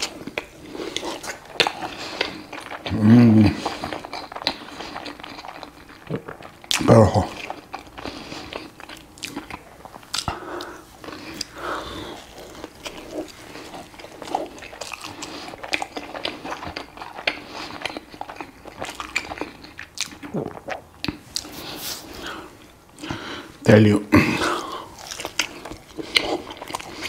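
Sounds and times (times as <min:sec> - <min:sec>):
person chewing food: 0:00.0 - 0:23.6, 0:24.2 - 0:27.0.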